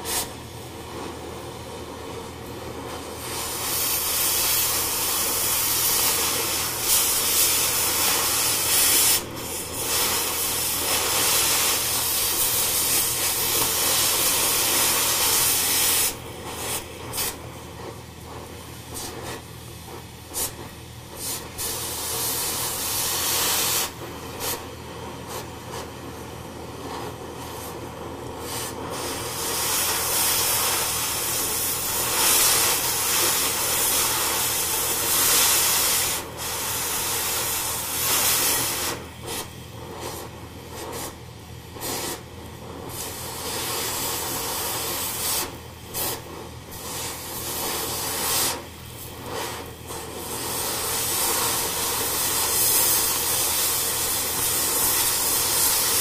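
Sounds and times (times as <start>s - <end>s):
plasma cutter hissing: 0.0s - 56.0s.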